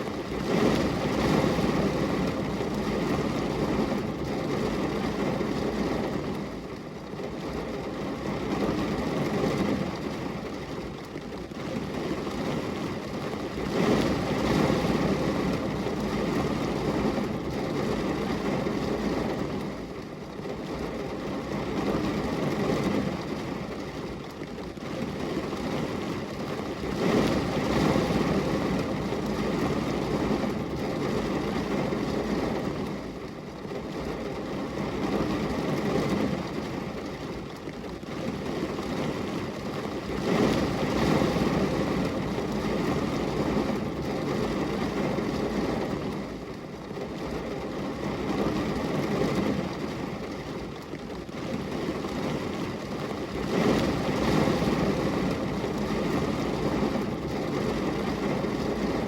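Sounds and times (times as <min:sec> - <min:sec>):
rain: 0:00.0 - 0:59.0.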